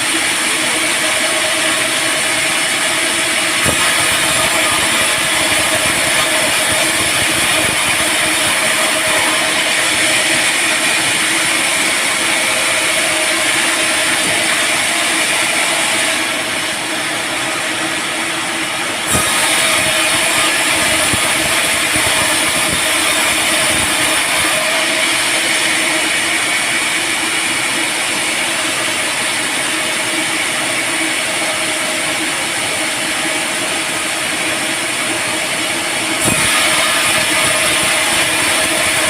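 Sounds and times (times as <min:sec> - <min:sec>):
band saw running: 0:00.0 - 0:39.0.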